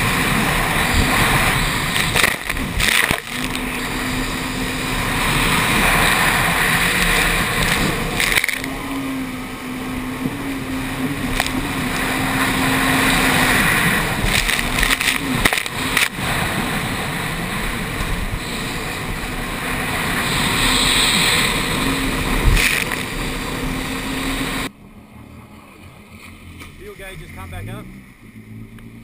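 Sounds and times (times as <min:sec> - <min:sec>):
water spray rushing: 0:00.0 - 0:24.7
jet ski engine running hard: 0:00.0 - 0:29.0
wind: 0:00.0 - 0:29.0.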